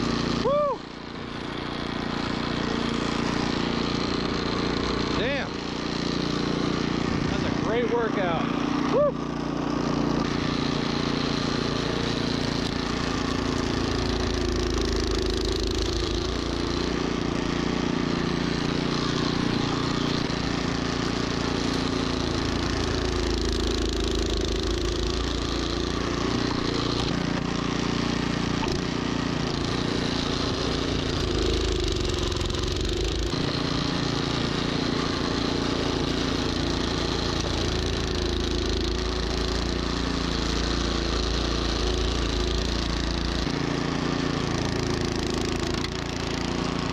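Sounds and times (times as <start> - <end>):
snowblower engine running: 0.0 - 46.9.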